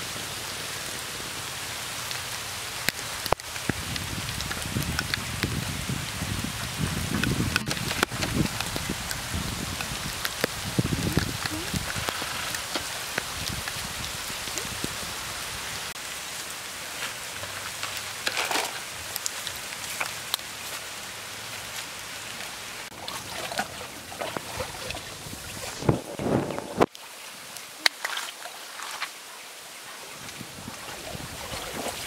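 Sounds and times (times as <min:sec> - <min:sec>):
rain on leaves and water: 0:00.0 - 0:32.0.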